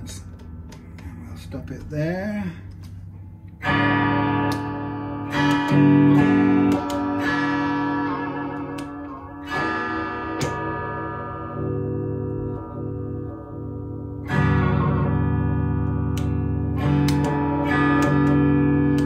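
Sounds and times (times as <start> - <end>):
electric guitar chords strummed: 0.0 - 19.0.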